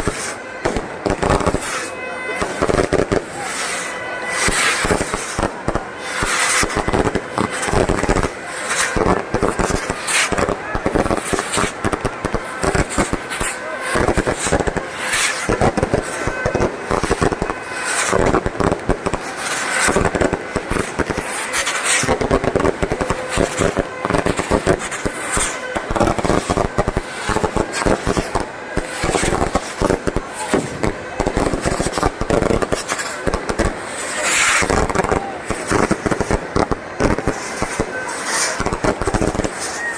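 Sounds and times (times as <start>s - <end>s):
fireworks and firecrackers crackling: 0.0s - 39.9s.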